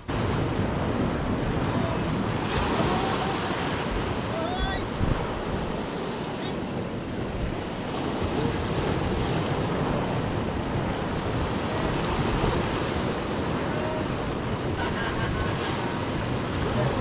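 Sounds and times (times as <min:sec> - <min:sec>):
waves breaking on rocks: 0:00.0 - 0:17.0
wind buffeting microphone: 0:00.0 - 0:17.0.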